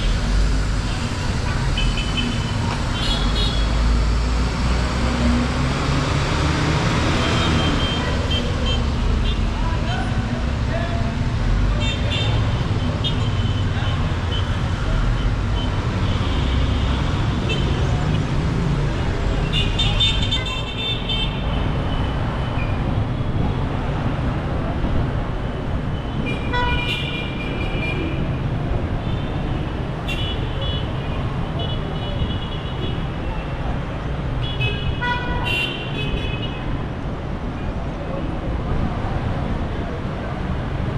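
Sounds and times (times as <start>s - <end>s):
traffic engines rumbling: 0.0s - 40.9s.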